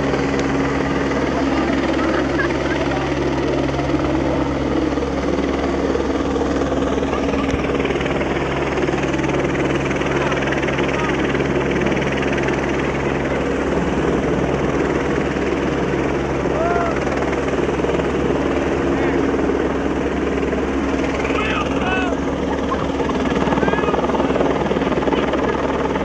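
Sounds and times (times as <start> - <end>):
helicopter hovering: 0.0 - 26.0.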